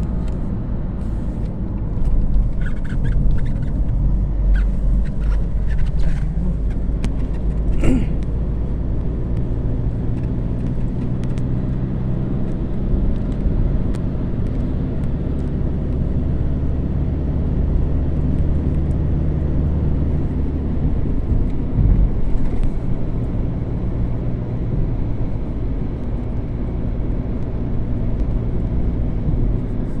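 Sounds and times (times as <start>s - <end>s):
engine running with low rumble: 0.0s - 30.0s.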